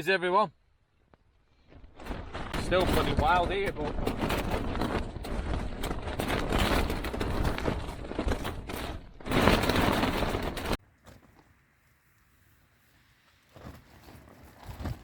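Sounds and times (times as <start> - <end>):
tent fabric flapping in wind: 1.5 - 15.0.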